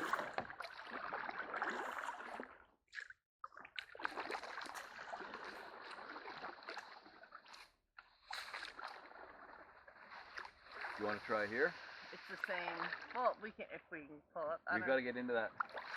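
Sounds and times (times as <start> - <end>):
paddles splashing in water: 0.0 - 13.6, 15.5 - 15.9.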